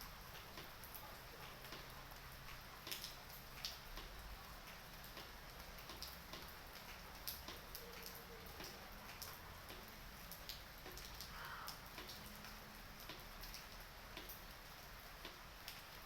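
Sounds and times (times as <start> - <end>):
raindrops ticking: 0.0 - 16.0.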